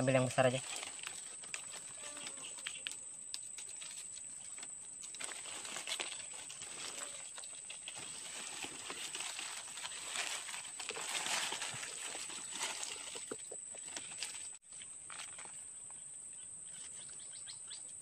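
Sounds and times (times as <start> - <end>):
dry leaves rustling: 0.0 - 15.6.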